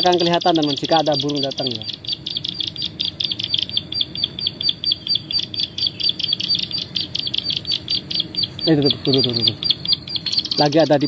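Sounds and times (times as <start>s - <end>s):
bird call through phone speaker: 0.0s - 11.0s.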